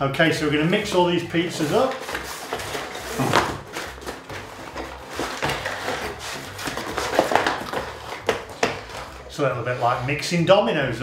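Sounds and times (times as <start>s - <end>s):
pizza boxes sliding and scraping: 0.6s - 7.3s, 7.9s - 11.0s.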